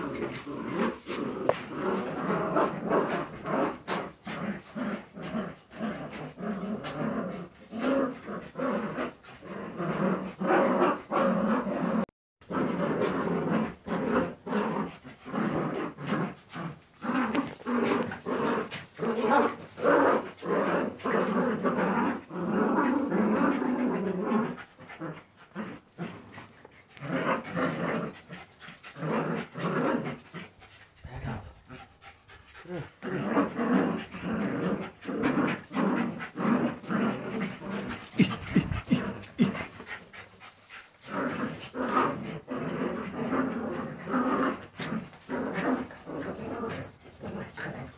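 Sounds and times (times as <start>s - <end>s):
puppies growling: 0.0s - 47.9s.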